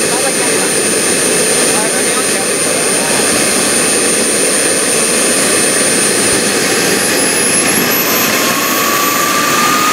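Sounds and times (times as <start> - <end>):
high turbine whine: 0.0 - 9.9
jet turbine rushing: 0.0 - 9.9.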